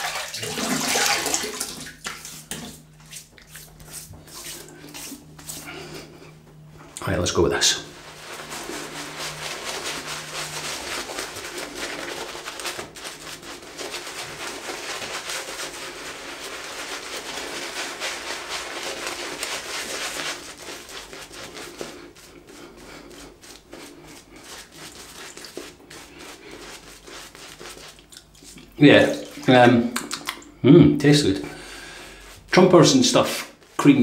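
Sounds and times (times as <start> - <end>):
shaving brush swishing through foam: 0.0 - 6.4, 7.1 - 29.4.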